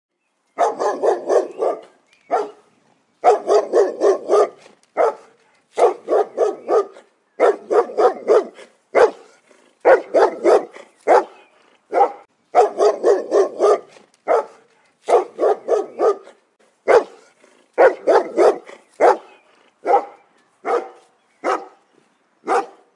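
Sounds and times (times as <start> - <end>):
dog barking: 0.6 - 2.6, 3.2 - 21.8, 22.5 - 22.9.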